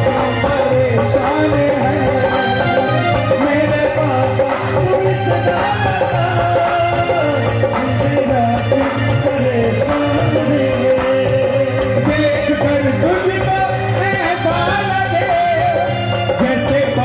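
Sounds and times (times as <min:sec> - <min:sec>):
devotional music over sound system: 0:00.0 - 0:17.0.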